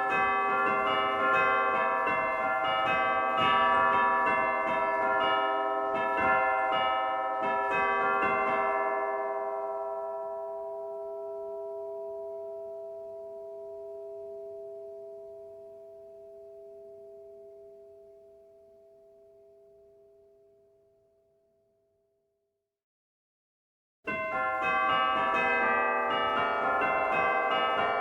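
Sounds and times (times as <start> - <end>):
church bell ringing: 0.0 - 19.5, 24.1 - 28.0.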